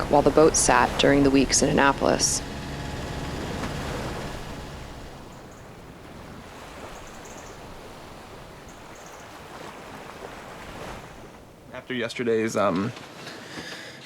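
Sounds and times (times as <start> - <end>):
wind and water rushing: 0.0 - 12.7.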